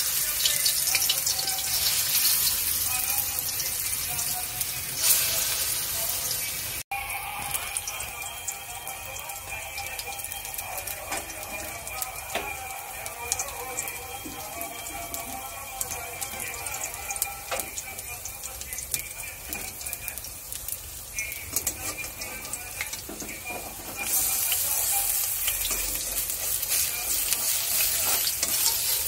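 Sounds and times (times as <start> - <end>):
pakoras frying in oil: 0.0 - 29.0.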